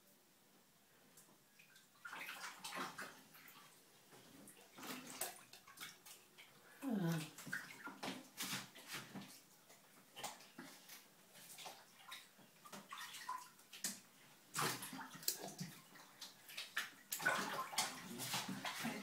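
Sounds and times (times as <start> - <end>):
water splashing in a sink: 1.5 - 19.0.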